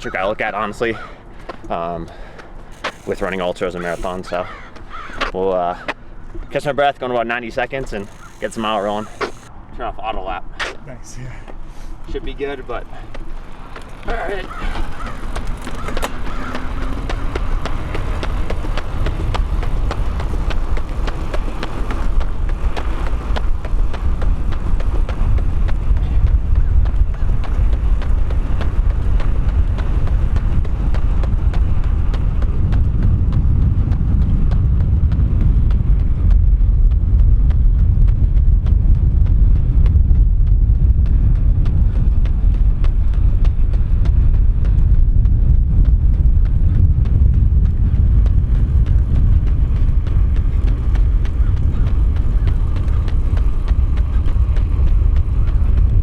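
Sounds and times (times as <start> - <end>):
wind buffeting microphone: 0.0 - 56.0
running footfalls: 1.3 - 5.4, 7.8 - 9.5, 12.2 - 56.0.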